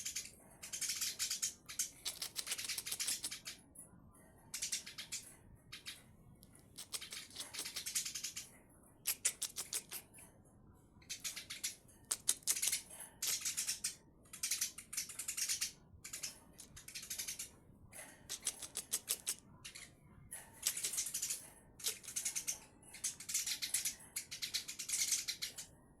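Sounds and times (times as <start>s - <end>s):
sparrows chirping: 0.0s - 26.0s.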